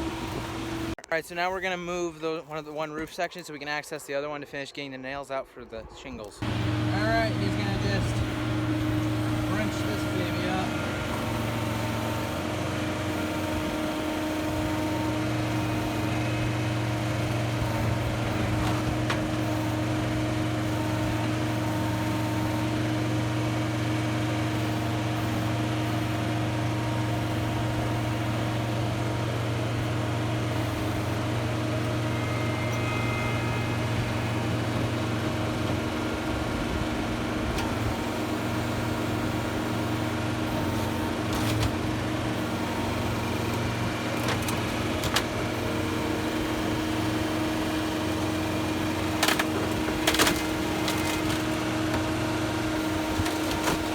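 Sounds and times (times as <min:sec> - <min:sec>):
heavy machine engine running: 0:00.0 - 0:01.0, 0:06.4 - 0:53.9.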